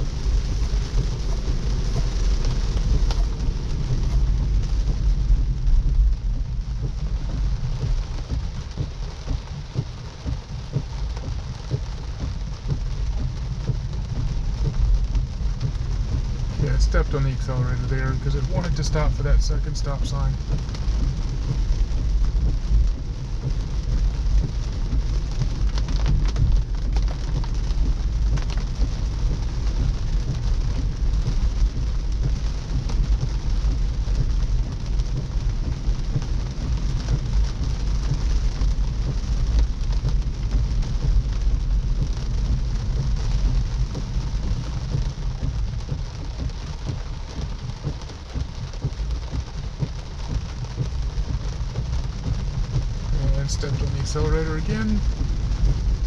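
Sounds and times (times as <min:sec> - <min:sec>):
rain on car roof: 0:00.0 - 0:56.0
tyres rumbling on wet road: 0:00.0 - 0:56.0.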